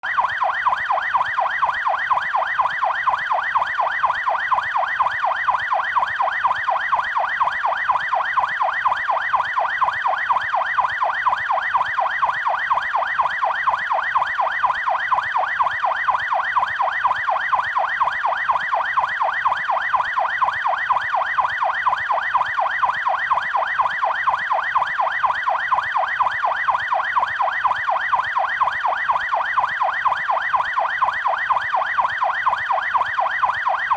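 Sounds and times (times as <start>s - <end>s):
police siren yelping: 0.0s - 33.9s.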